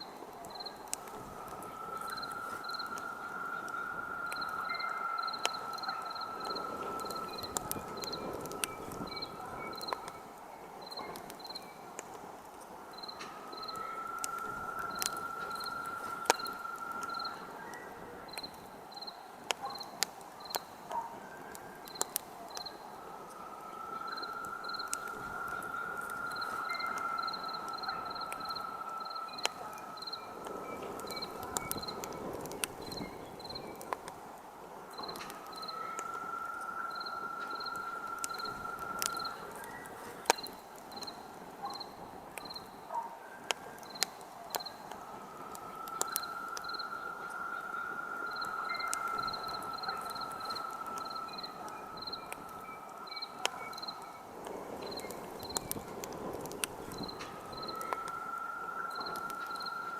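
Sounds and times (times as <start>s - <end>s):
campfire crackling and popping: 0.0s - 59.9s
crickets chirping: 0.0s - 59.9s.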